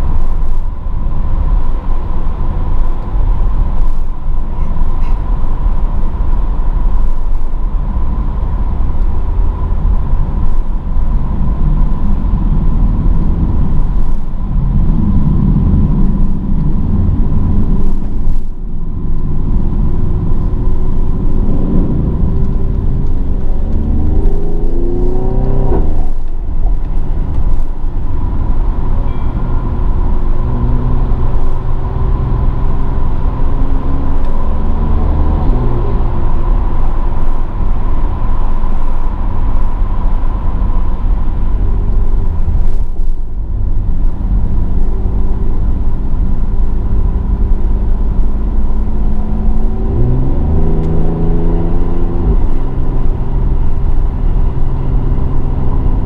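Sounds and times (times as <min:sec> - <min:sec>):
car engine rumbling while driving: 0:00.0 - 0:56.0
road noise: 0:00.0 - 0:56.0.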